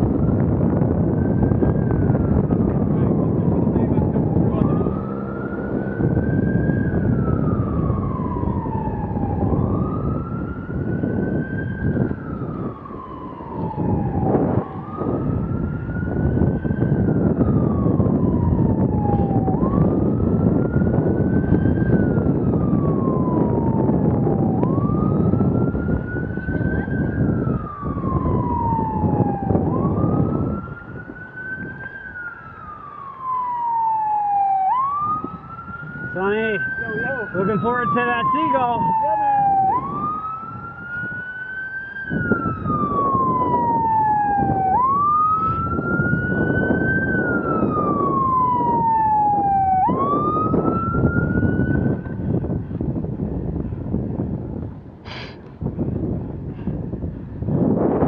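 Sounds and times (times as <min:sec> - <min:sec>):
emergency siren wailing: 0:00.0 - 0:58.0
wind rush on microphone: 0:00.0 - 0:58.0.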